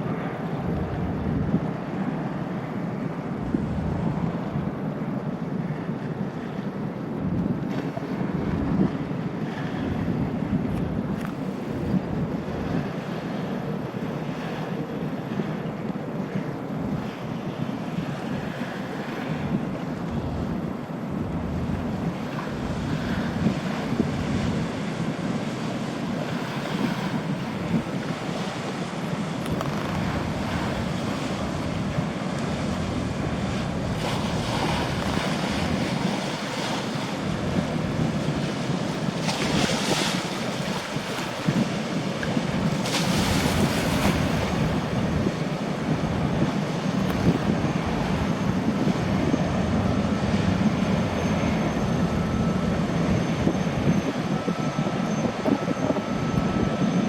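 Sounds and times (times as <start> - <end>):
faint high turbine whine: 0.0 - 57.0
ferry engine drone: 0.0 - 57.0
rushing water: 0.0 - 57.0
wind buffeting microphone: 0.0 - 57.0.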